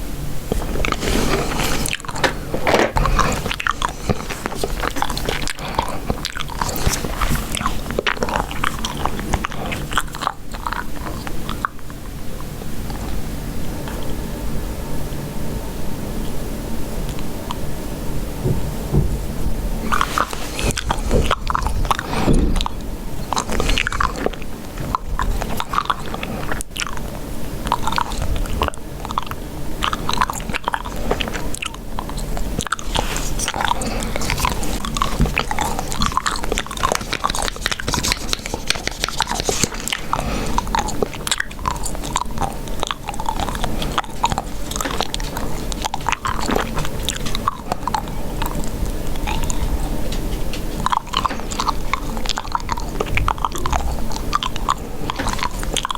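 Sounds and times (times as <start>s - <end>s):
gum chewing with wet clicks: 0.5s - 13.2s, 19.8s - 55.9s.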